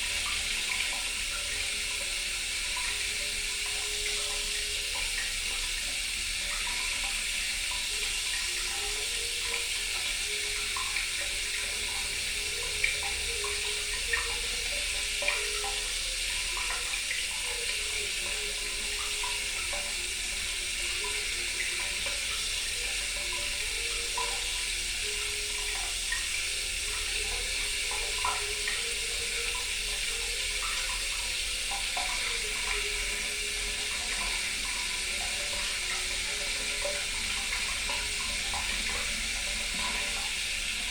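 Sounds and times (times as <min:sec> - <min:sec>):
bubbling plinks: 0:00.0 - 0:40.9
tap water running into sink: 0:00.0 - 0:40.9
water drips: 0:00.0 - 0:40.9.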